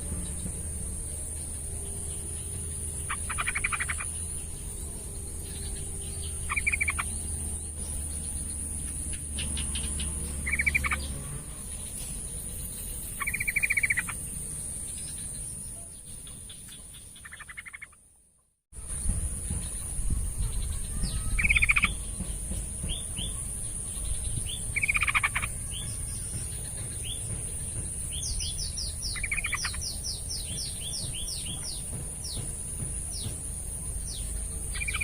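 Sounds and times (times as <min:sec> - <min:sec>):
bird chattering calls: 0:02.2 - 0:18.0, 0:18.9 - 0:35.0.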